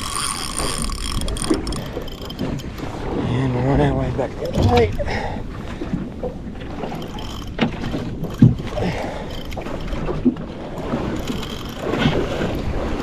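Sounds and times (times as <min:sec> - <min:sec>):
water around a boat: 0:00.0 - 0:13.0
wind: 0:00.0 - 0:13.0.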